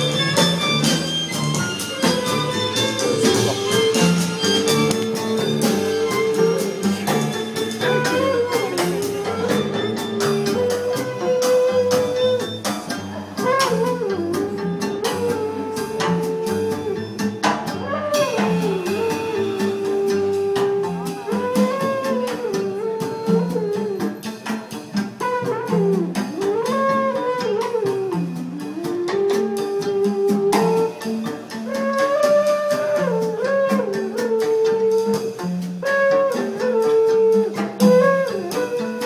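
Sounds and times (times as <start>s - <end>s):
double bass: 0.0s - 39.0s
drum kit: 0.0s - 39.0s
sliding lead melody: 0.0s - 39.0s.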